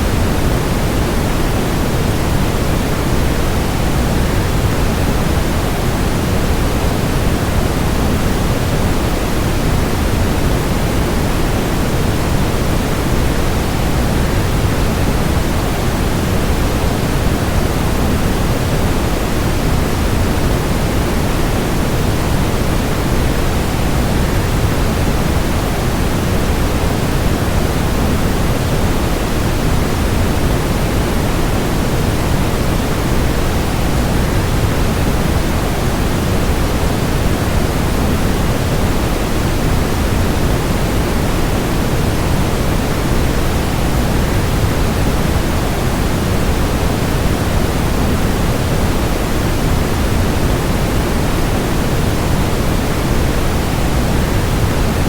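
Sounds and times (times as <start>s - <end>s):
white noise: 0.0s - 55.0s.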